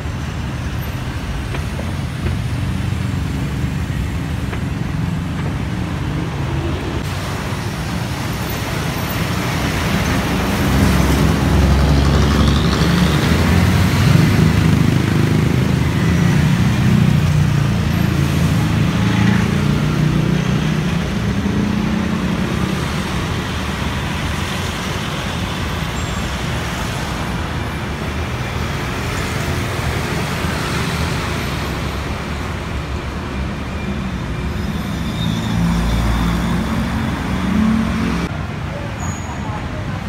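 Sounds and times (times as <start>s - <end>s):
city road traffic: 0.0s - 40.0s
tyres on road surface: 0.0s - 40.0s.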